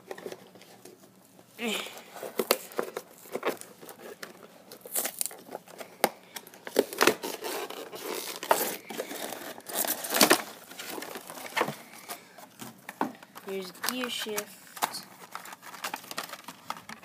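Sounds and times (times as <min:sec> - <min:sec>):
plastic packaging tearing and crinkling: 0:02.0 - 0:12.2, 0:13.4 - 0:17.0.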